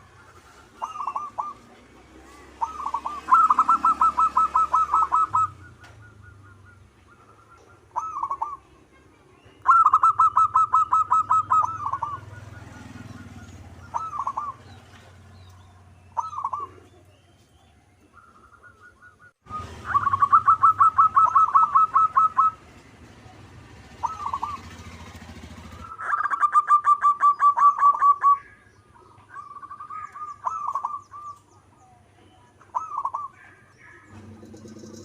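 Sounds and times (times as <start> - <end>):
dove cooing: 0.0 - 8.7, 9.6 - 17.2, 18.1 - 35.0.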